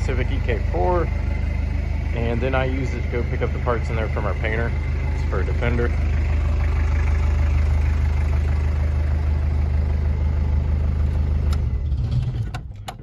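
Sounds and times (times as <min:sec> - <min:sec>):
diesel engine idling: 0:00.0 - 0:12.8.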